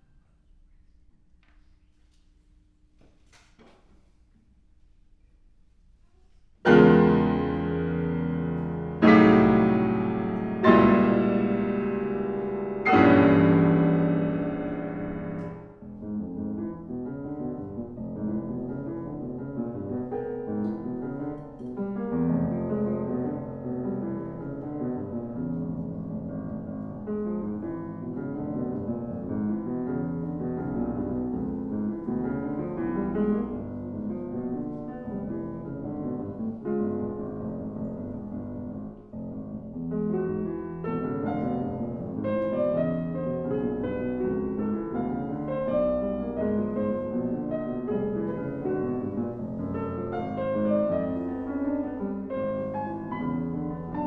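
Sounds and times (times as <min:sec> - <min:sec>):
piano playing: 0:06.6 - 0:54.0.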